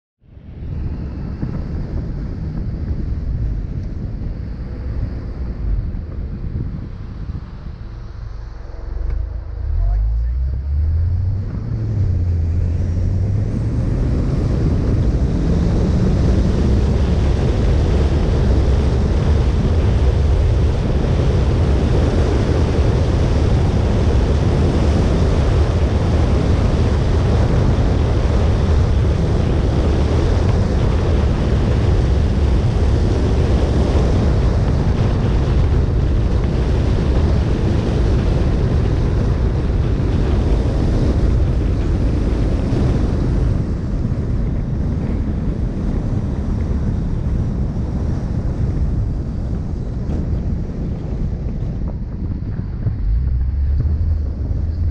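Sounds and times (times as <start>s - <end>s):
car engine rumble: 0.3s - 54.9s
wind buffeting microphone: 0.3s - 54.9s.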